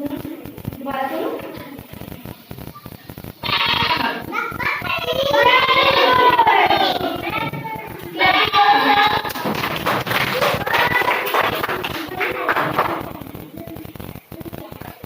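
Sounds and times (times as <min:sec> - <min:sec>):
children calling out sing-song: 0:02.4 - 0:15.0.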